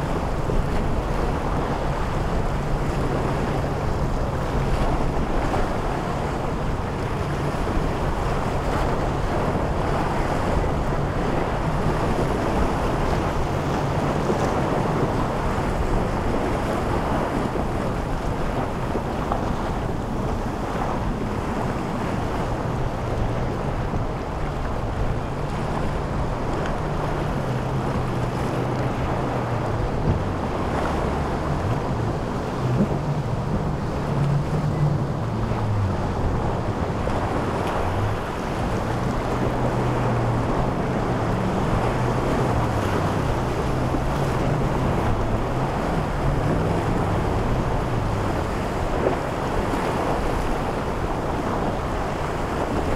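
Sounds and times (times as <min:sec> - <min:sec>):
motorboat engine droning: 0:00.0 - 0:52.9
surf: 0:00.0 - 0:52.9
wind noise on microphone: 0:00.0 - 0:52.9.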